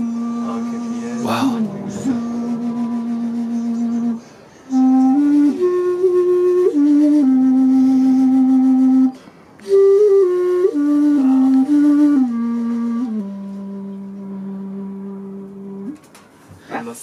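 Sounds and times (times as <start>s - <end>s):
bamboo flute melody: 0.0s - 16.1s.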